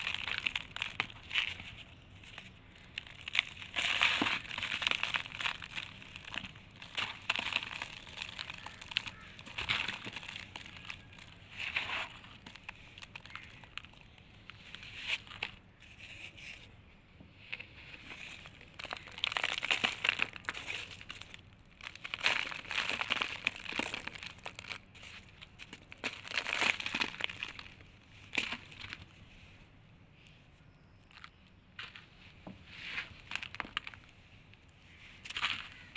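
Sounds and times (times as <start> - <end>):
hands crumbling dry sand blocks: 0.0 - 16.8, 17.5 - 29.2, 31.0 - 35.9.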